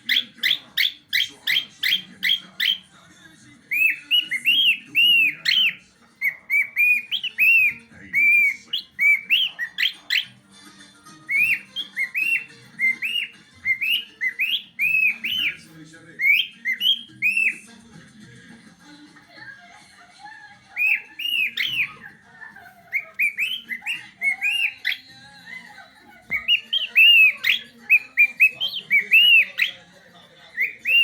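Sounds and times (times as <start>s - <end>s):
songbird singing: 0.0s - 17.7s, 20.6s - 31.0s.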